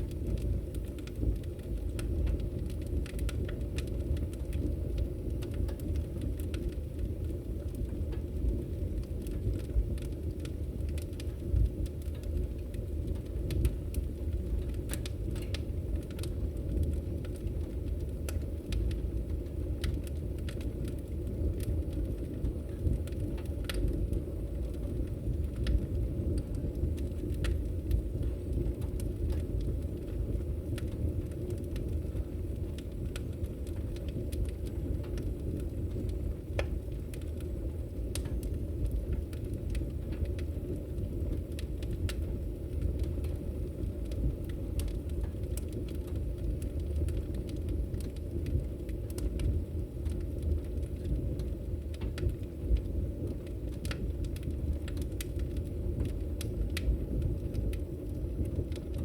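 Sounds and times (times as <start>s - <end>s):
fire crackles and pops: 0.0s - 59.0s
fireplace flames rumbling: 0.0s - 59.0s.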